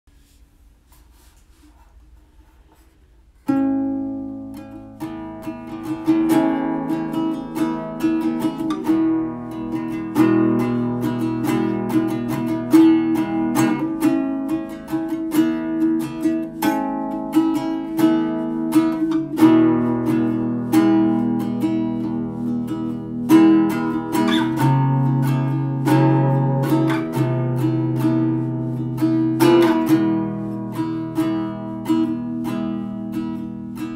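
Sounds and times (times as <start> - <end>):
guitar picking notes and chords: 3.5 - 33.9.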